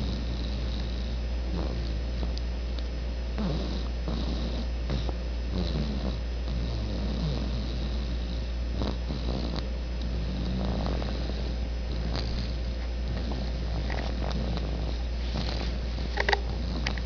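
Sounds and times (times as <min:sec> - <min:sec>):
person snoring: 0:00.0 - 0:02.3, 0:03.4 - 0:17.0
constant low hum: 0:00.0 - 0:17.0.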